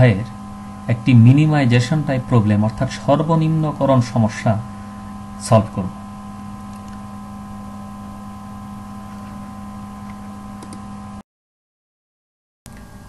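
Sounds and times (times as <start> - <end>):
electrical hum: 0.0 - 11.2, 12.7 - 13.0.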